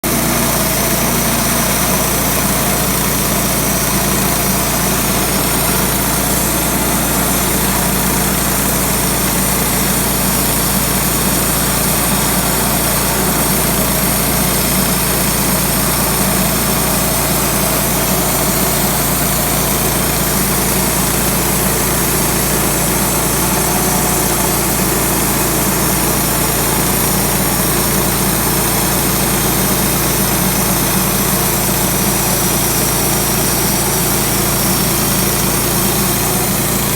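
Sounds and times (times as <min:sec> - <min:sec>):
sawmill engine running: 0:00.0 - 0:36.9.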